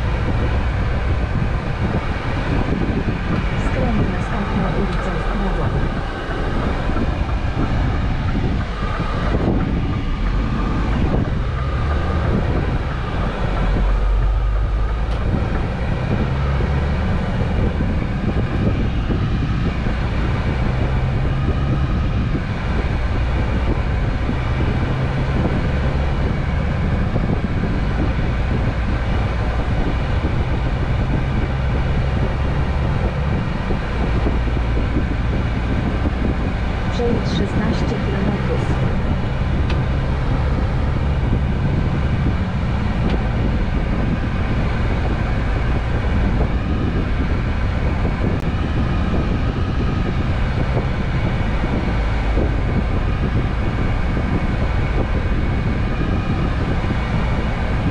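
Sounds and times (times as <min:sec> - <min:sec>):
truck engine low drone: 0:00.0 - 0:57.9
tyre and wind noise: 0:00.0 - 0:57.9.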